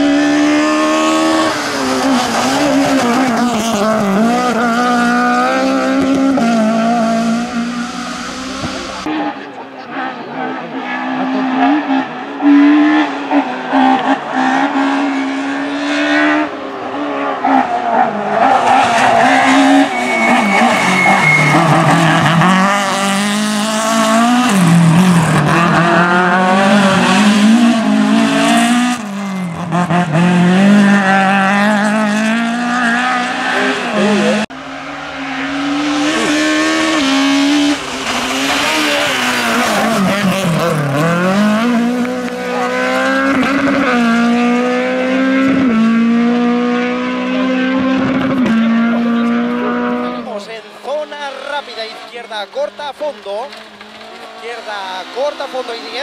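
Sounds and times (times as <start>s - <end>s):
rally car engine revving hard: 0.0s - 56.0s.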